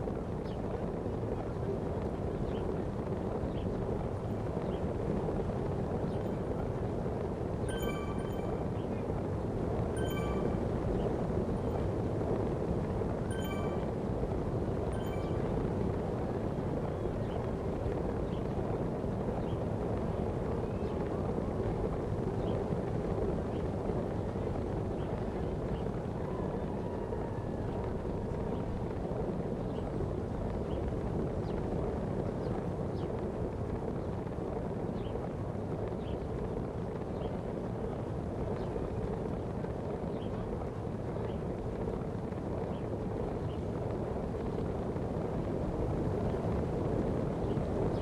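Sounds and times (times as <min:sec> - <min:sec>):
bicycle road rumble: 0:00.0 - 0:48.0
wind rush: 0:00.0 - 0:48.0.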